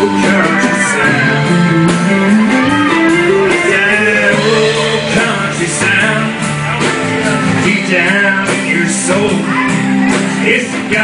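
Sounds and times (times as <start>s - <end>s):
country band playing live: 0.0s - 11.0s.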